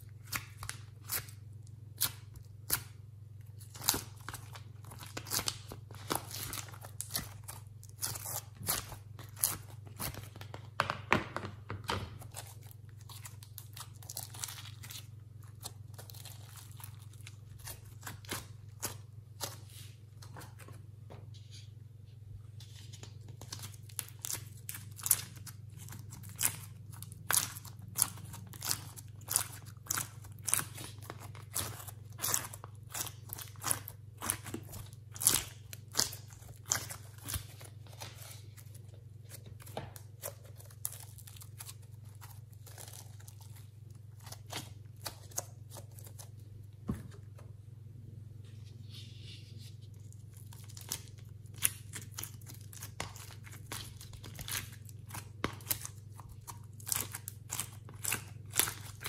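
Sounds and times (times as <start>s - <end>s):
steady low hum: 11.6s - 59.0s.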